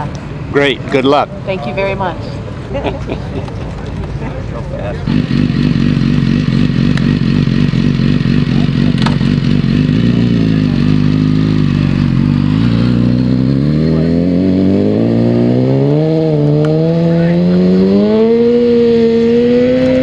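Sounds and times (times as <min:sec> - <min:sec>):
motorcycle engine accelerating: 0:03.8 - 0:20.0.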